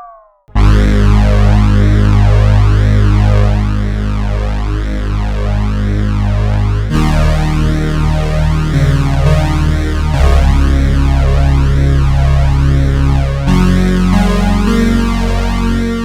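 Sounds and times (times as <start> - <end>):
synthesizer chord sweeping: 0.5 - 16.0.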